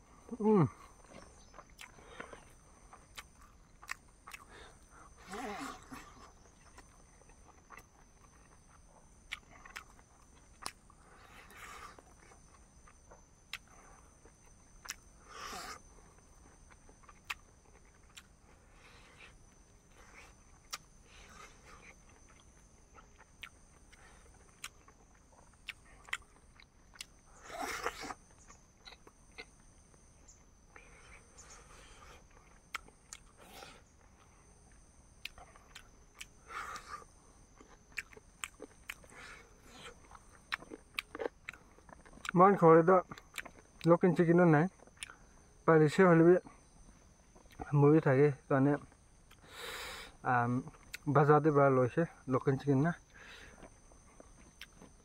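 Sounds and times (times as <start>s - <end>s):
person chewing food: 0.2s - 42.4s, 43.0s - 43.9s, 44.7s - 45.6s, 46.6s - 47.7s, 48.9s - 49.7s, 50.7s - 51.1s, 53.0s - 55.0s.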